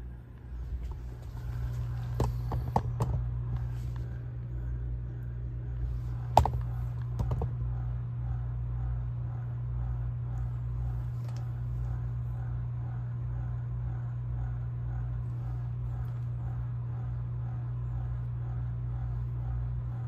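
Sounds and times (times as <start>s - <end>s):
lab equipment humming: 0.0s - 20.0s.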